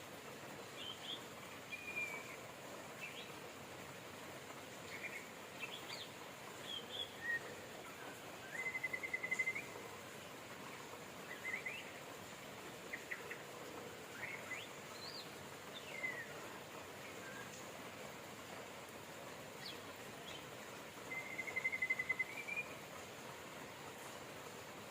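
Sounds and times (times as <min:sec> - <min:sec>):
rain hiss: 0:00.0 - 0:24.9
songbirds chirping: 0:00.1 - 0:24.9.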